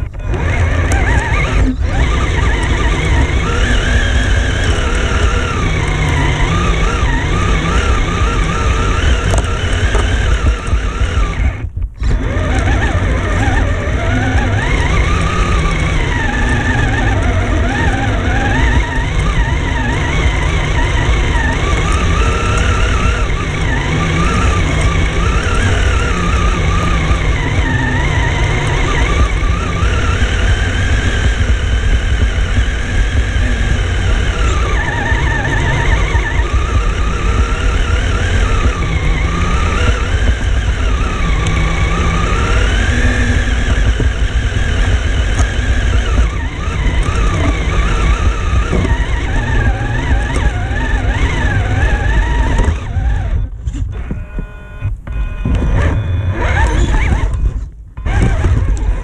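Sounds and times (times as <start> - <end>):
chassis rumbling over rough ground: 0.0 - 59.0
clicks: 0.0 - 59.0
toy car motor whining: 0.0 - 59.0.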